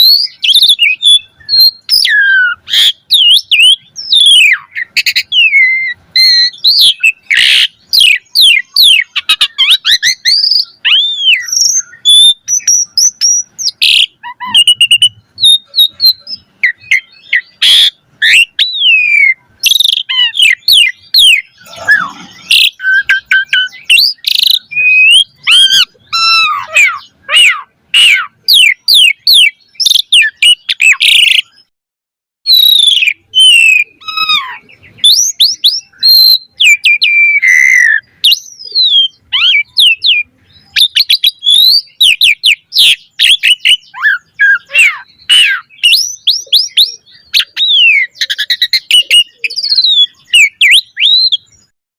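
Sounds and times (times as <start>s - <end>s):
starling singing: 0.0s - 31.7s, 32.5s - 51.7s.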